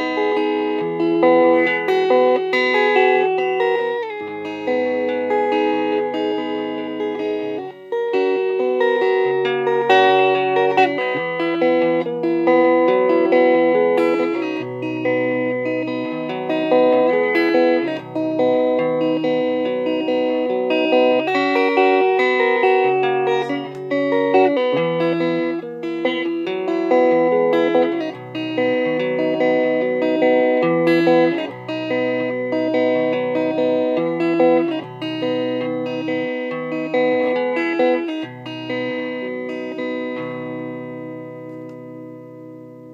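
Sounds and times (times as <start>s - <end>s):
plucked guitar melody: 0.0s - 42.9s.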